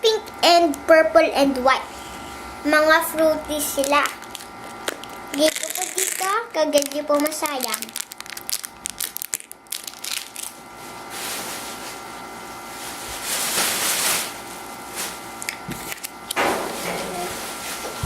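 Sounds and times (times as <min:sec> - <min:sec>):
plastic packaging crinkling: 0:03.5 - 0:18.0.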